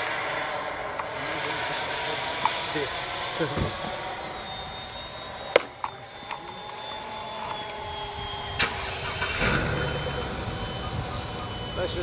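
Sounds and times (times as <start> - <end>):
electric ducted fan whining: 0.0 - 12.0.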